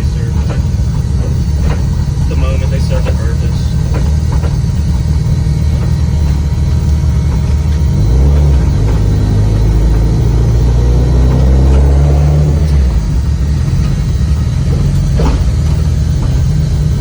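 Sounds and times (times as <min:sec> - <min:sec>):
loud engine drone inside car: 0:00.0 - 0:17.0.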